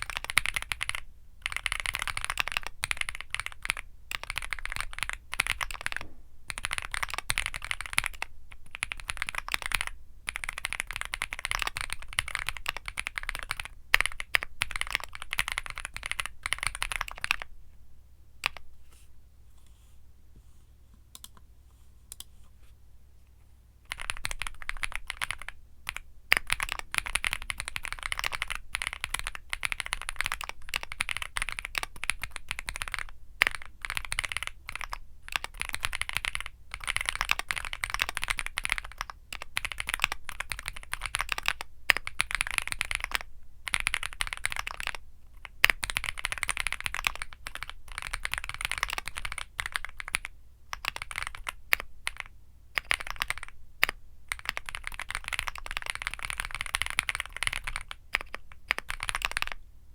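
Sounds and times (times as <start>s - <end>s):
mechanical keyboard typing: 0.0s - 17.5s, 18.4s - 18.6s, 23.9s - 59.6s.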